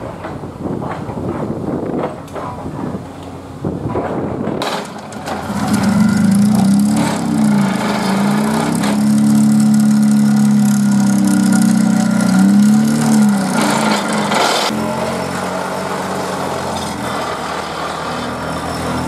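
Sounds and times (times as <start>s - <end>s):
vibratory pile driver humming: 3.7s - 19.0s.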